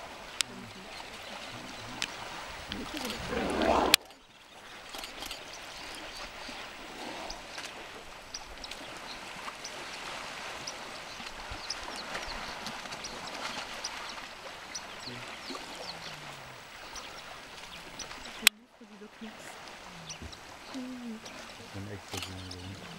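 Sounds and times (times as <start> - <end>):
elephants splashing in water: 0.0 - 22.9.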